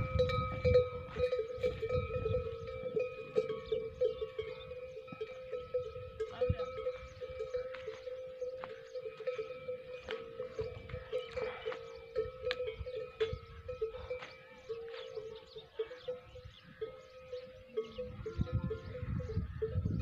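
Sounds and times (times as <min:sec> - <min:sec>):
camel bells clanking and ringing: 0:00.0 - 0:20.0.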